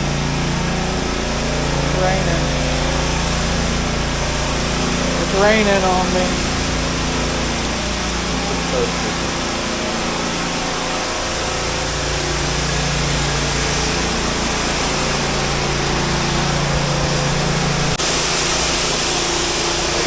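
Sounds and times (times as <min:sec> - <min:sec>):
steady mechanical drone: 0:00.0 - 0:20.0.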